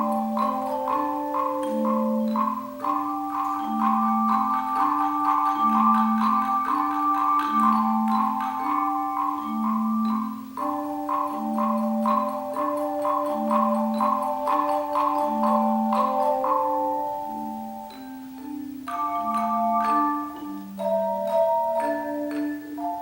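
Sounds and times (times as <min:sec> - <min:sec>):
tone chime ensemble playing: 0:00.0 - 0:23.0.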